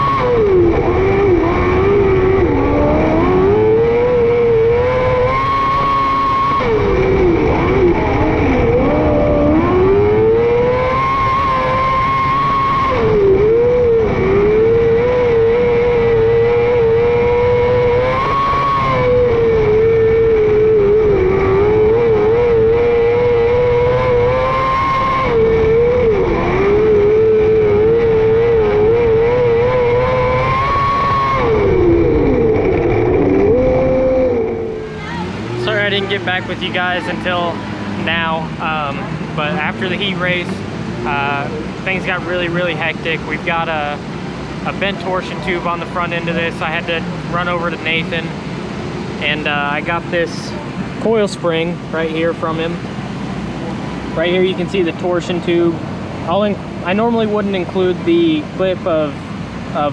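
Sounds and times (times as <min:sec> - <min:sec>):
racing car engine: 0:00.0 - 0:59.9.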